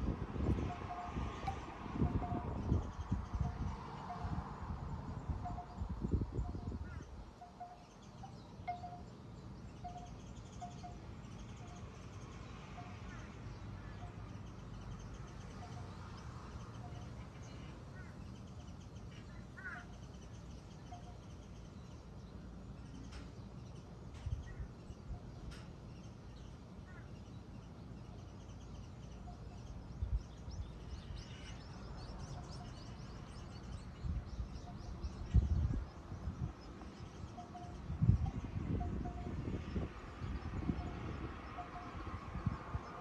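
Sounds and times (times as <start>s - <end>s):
small birds chirping: 5.0s - 43.0s.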